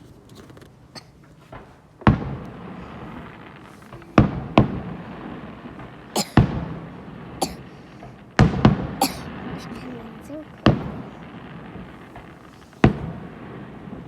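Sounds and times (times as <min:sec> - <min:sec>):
fireworks bangs: 0:01.4 - 0:14.0
rumbling echo: 0:02.2 - 0:14.0.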